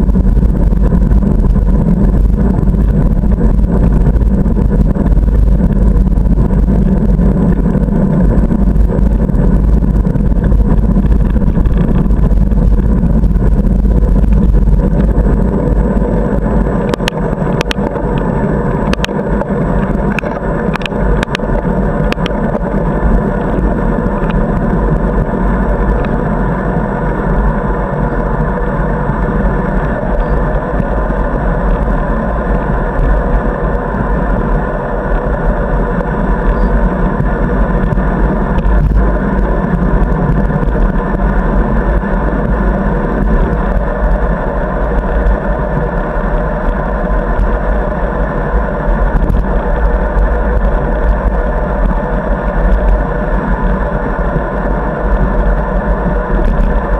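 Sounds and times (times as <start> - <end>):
bicycle tyre and road noise: 0.0 - 56.9
wind buffeting microphone: 0.0 - 56.9.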